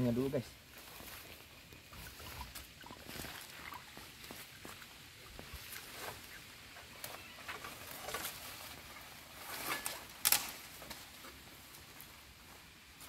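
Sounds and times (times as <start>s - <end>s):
footsteps in dry leaves: 0.0s - 13.0s.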